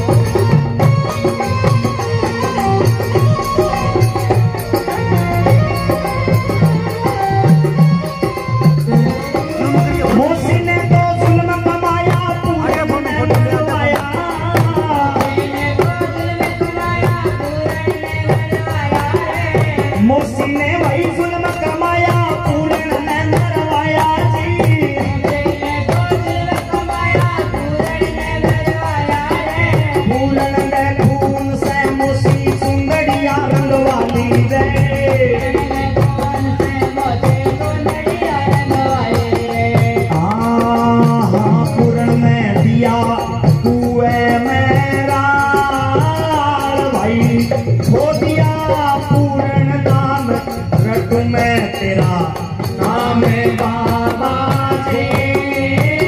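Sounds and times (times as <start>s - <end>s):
hand drum: 0.0s - 56.0s
keyboard or harmonium: 0.0s - 56.0s
man singing through a microphone: 0.0s - 56.0s
rattling handheld percussion: 0.0s - 56.0s.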